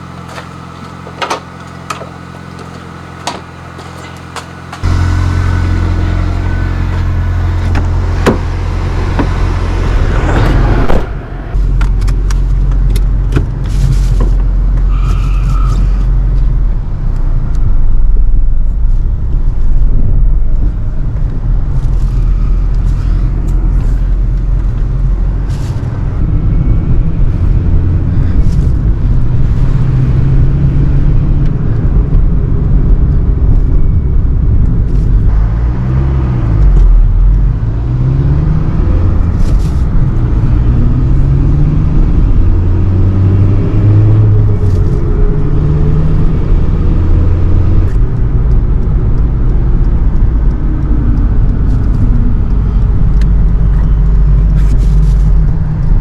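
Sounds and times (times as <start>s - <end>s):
car engine running: 0.0s - 56.0s
loud low rumble: 4.5s - 56.0s.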